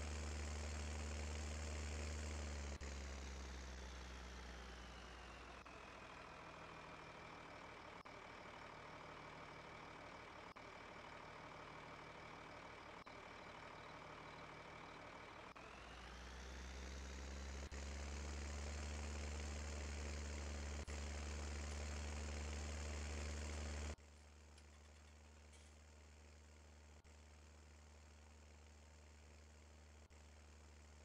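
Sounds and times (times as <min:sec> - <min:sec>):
diesel engine running: 0:00.0 - 0:27.1.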